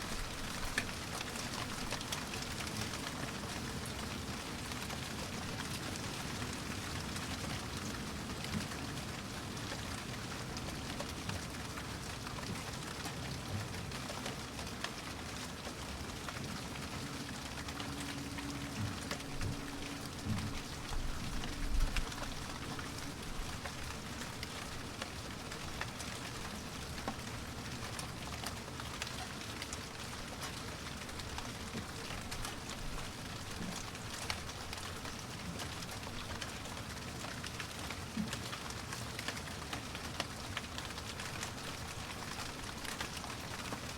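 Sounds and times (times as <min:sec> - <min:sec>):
raindrops clicking on a surface: 0:00.0 - 0:43.9.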